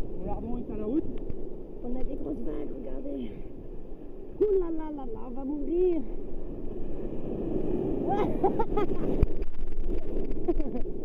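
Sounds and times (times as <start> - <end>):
whitewater rushing and churning: 1.8 - 10.8.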